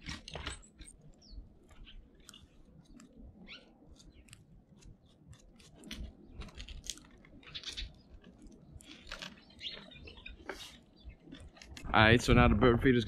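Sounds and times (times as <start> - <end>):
crunching and clicking at bird feeder: 0.0 - 11.9.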